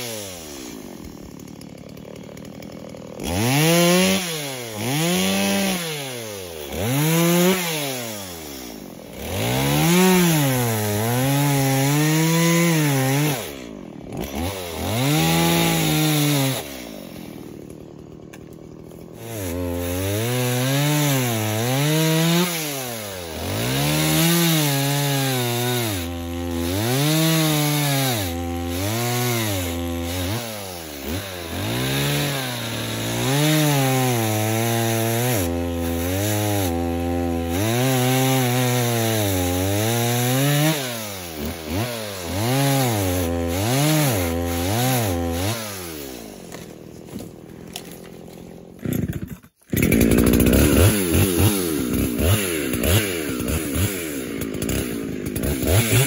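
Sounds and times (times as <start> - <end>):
chainsaw revving and cutting: 0.0 - 56.0.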